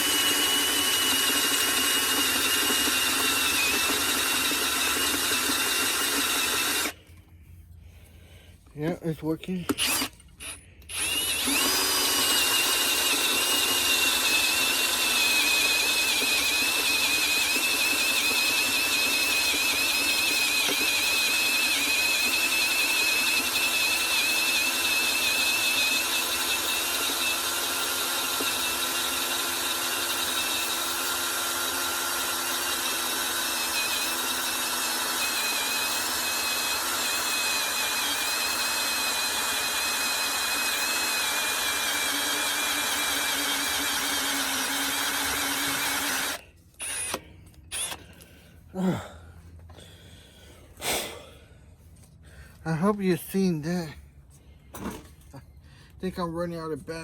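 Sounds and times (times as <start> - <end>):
power drill boring metal: 0.0 - 7.1, 9.2 - 48.4.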